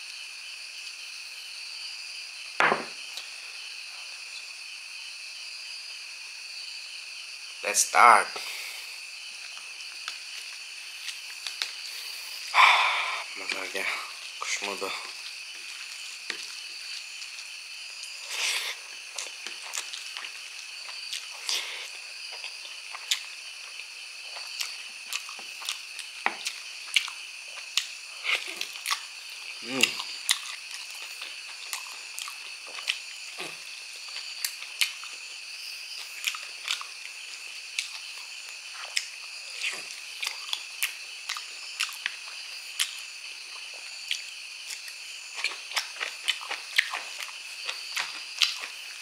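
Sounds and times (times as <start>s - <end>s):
crickets chirring: 0.0s - 49.0s
steady high hiss: 0.0s - 49.0s.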